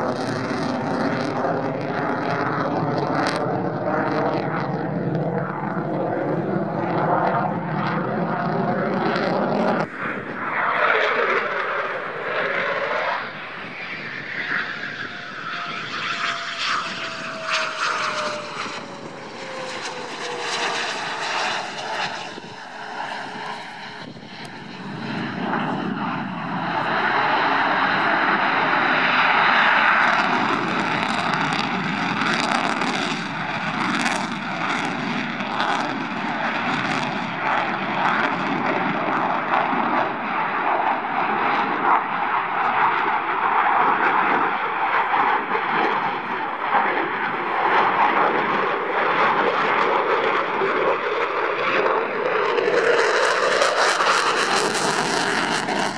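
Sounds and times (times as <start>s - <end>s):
jet engine whine: 0.0s - 55.9s
jet flying past: 0.0s - 55.9s.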